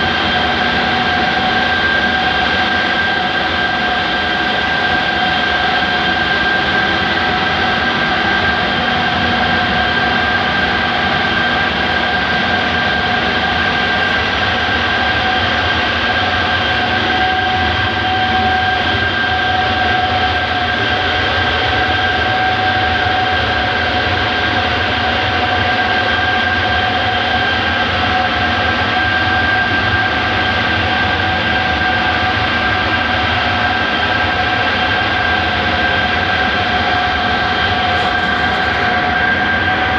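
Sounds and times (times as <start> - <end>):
compressor rushing with high whine: 0.0 - 39.9.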